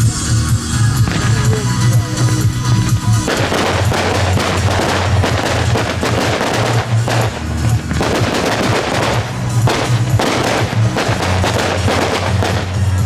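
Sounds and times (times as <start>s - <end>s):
fireworks popping and crackling: 0.0s - 13.0s
loud music: 0.0s - 13.0s.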